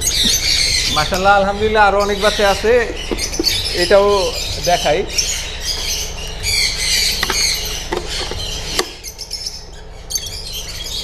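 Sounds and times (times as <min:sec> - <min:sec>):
lovebirds squawking and chattering: 0:00.0 - 0:11.0.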